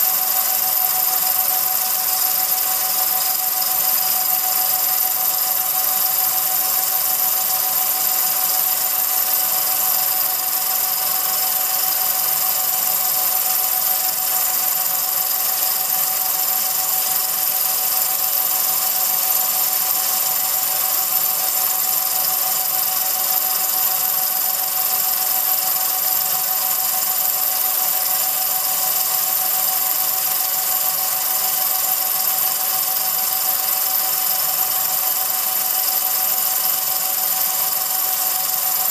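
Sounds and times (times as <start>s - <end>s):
film projector whirring and whining: 0.0s - 38.9s.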